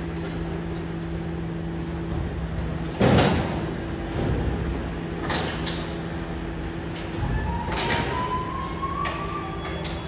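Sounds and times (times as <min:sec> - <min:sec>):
garbage truck mechanical hum: 0:00.0 - 0:10.0.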